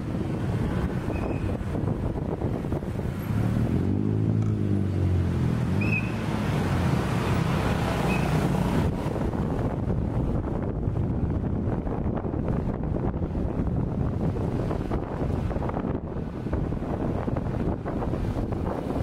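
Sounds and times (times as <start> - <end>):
car and motorcycle engines rumbling: 0.0 - 19.0.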